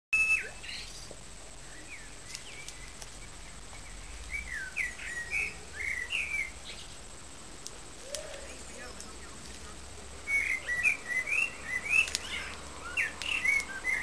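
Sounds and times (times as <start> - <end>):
small birds chirping and warbling: 0.2 - 14.0.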